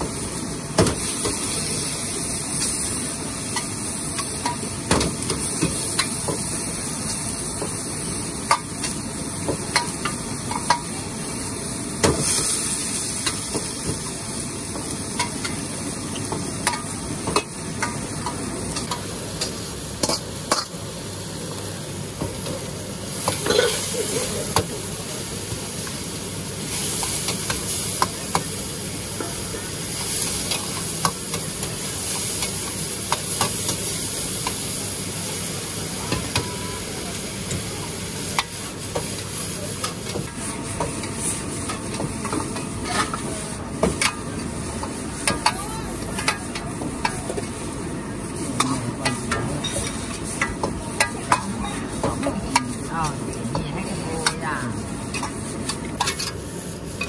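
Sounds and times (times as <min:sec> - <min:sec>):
food sizzling in wok: 0:00.0 - 0:57.0.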